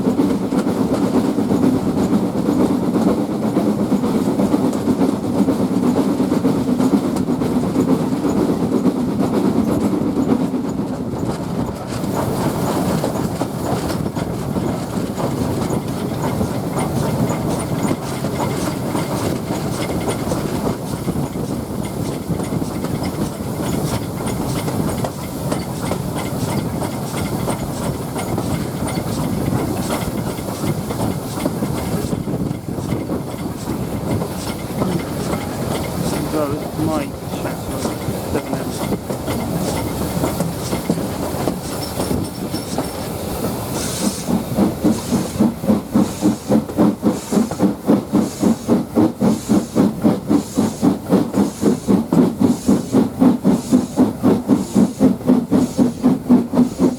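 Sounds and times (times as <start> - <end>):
train carriage rumbling: 0.0 - 56.9
wheels clicking over rail joints: 0.0 - 56.9.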